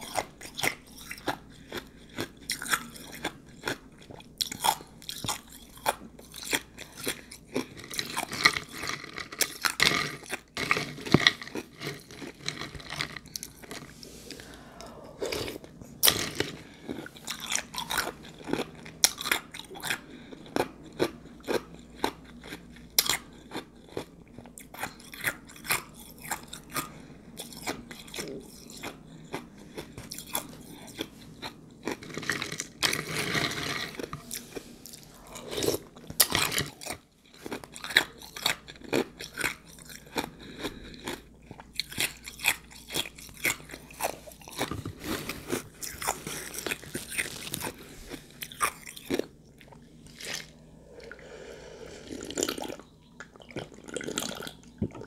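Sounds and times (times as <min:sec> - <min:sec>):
chewing and crunching ice: 0:00.0 - 0:50.7, 0:52.1 - 0:55.0.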